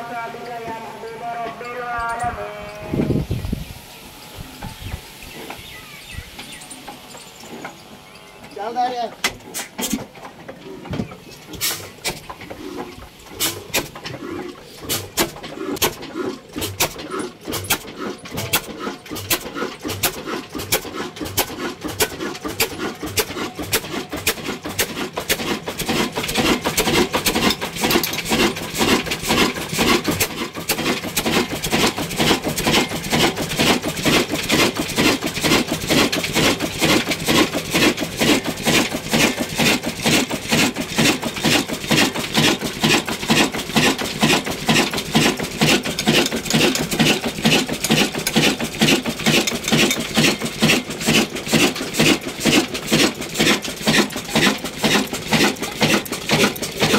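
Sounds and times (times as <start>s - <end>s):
diesel engine knocking: 10.1s - 56.9s.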